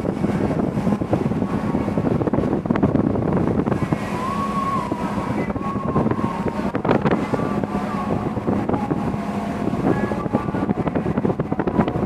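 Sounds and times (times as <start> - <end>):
low engine hum: 0.0 - 12.0
seawater churning along hull: 0.0 - 12.0
wind buffeting microphone: 0.0 - 12.0.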